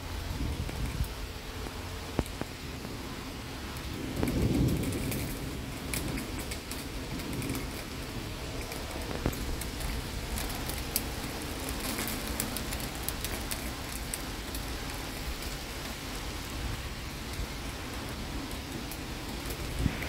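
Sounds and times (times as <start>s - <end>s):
rain falling: 0.0s - 20.0s
raindrops ticking on surfaces: 0.0s - 20.0s.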